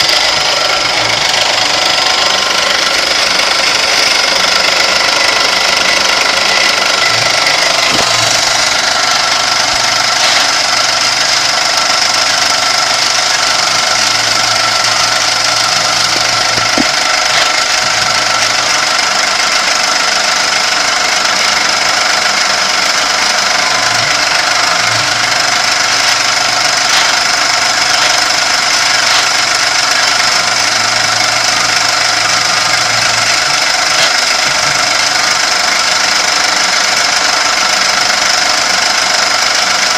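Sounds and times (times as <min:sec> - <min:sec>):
low mechanical rumble: 0:00.0 - 0:39.9
machine whining: 0:00.0 - 0:39.9.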